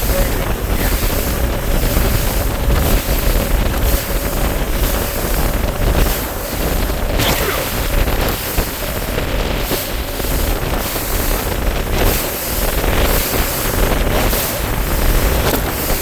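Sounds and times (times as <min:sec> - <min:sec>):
outboard motor running: 0:00.0 - 0:16.0
rushing water: 0:00.0 - 0:16.0
wind buffeting microphone: 0:00.0 - 0:16.0.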